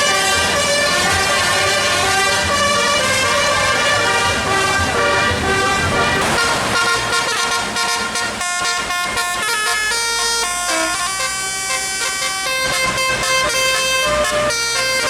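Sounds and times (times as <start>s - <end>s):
multi-tone bus horn tune: 0.0s - 15.0s.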